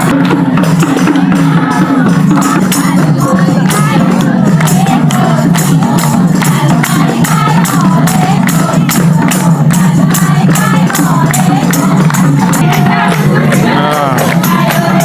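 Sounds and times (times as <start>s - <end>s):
fast percussion beat: 0.0s - 15.0s
folk dance song: 0.0s - 15.0s.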